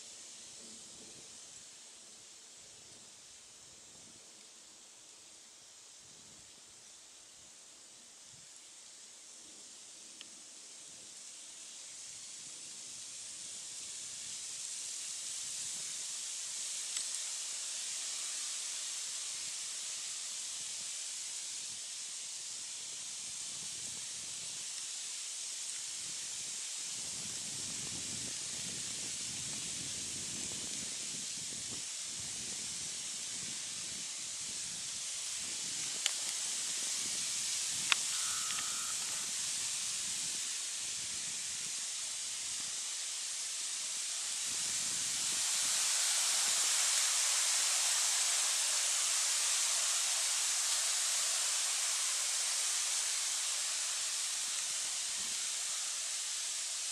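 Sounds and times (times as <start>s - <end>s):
forest background hiss: 0.0s - 56.9s.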